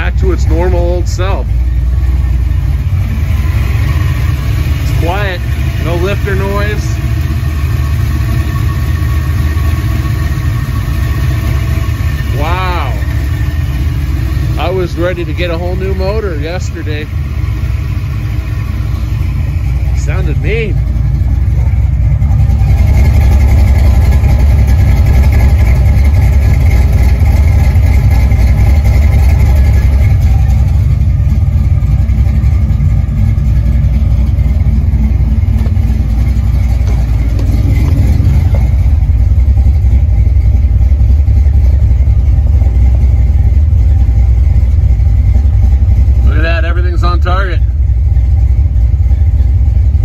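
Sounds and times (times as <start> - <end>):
engine idling with exhaust rumble: 0.0 - 50.0.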